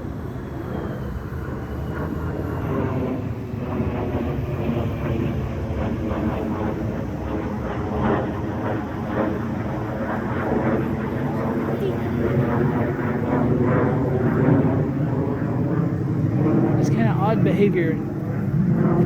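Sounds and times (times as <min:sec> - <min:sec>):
distant jet engine rumble: 0:00.0 - 0:19.0.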